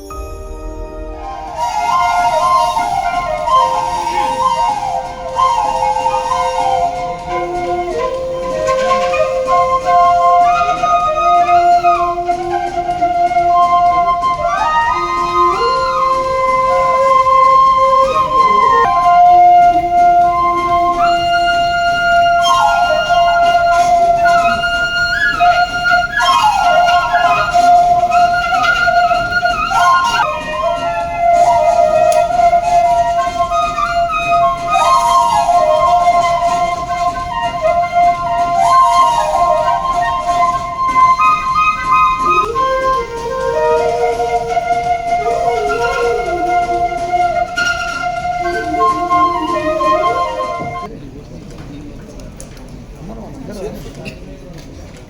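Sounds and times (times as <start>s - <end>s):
sustained accompaniment: 0.0s - 50.9s
flute-like sliding melody: 0.0s - 51.0s.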